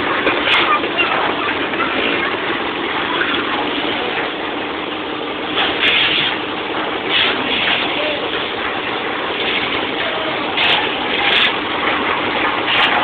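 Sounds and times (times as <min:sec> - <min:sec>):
machinery engine noise: 0:00.0 - 0:13.0.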